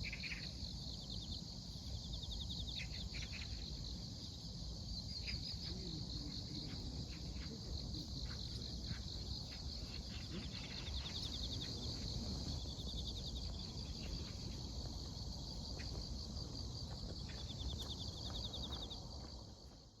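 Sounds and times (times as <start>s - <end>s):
fast pulsed insect trills: 0.0s - 20.0s.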